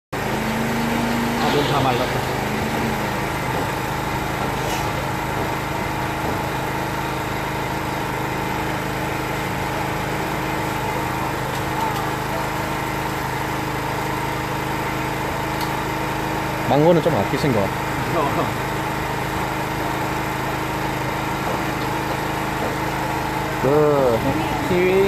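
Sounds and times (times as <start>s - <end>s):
small engine running steadily: 0.1s - 25.0s.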